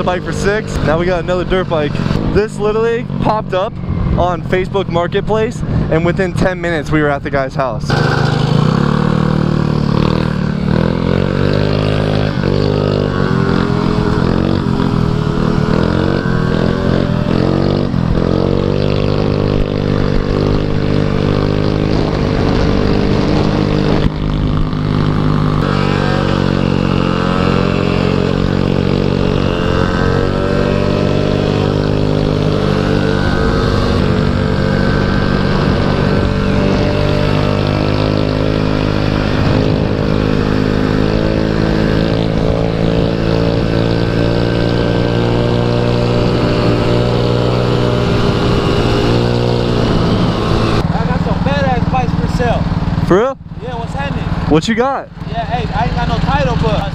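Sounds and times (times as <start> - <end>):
scooter engine running: 0.0 - 56.9.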